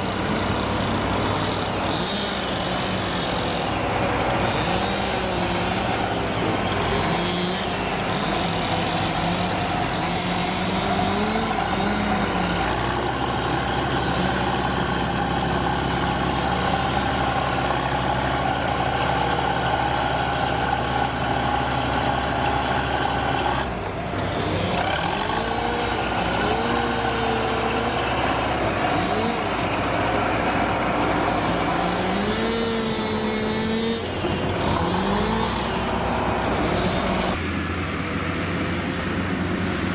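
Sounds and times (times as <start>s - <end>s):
heavy vehicle engines revving: 0.0s - 39.9s.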